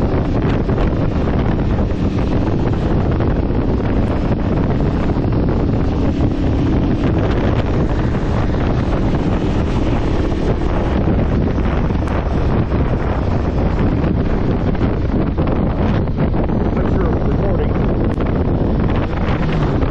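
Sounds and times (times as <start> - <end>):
motorcycle engine running: 0.0 - 19.9
wind buffeting microphone: 0.0 - 19.9.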